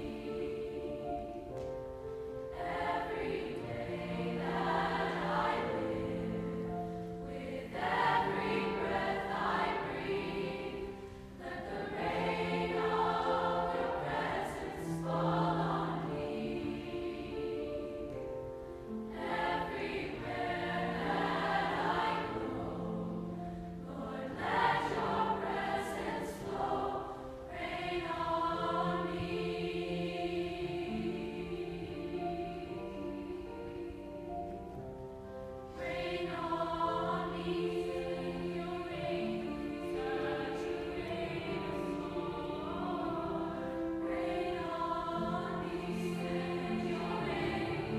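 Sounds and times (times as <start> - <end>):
choir singing: 0.0 - 47.9
grand piano accompaniment: 0.0 - 47.9.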